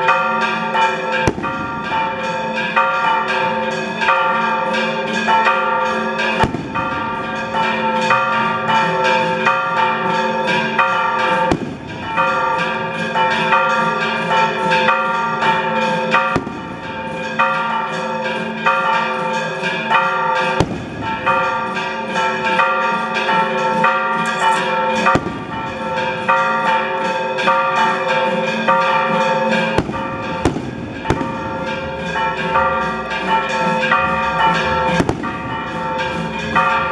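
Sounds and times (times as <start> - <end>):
bells ringing: 0.0 - 36.9.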